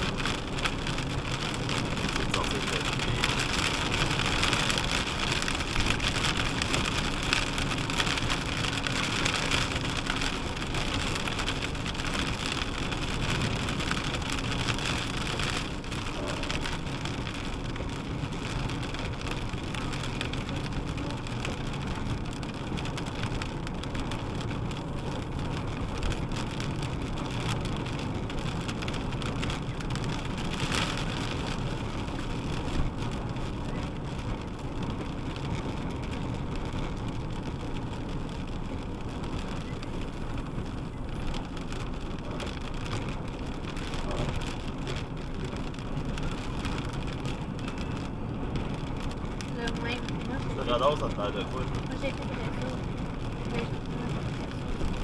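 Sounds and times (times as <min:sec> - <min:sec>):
car engine and road noise: 0:00.0 - 0:55.0
rain hitting windshield: 0:00.0 - 0:55.0.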